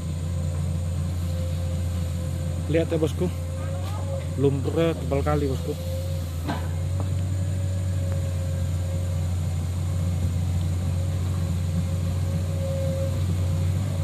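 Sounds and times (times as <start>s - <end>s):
excavator diesel engine drone: 0.0s - 14.0s
high whine: 0.0s - 14.0s.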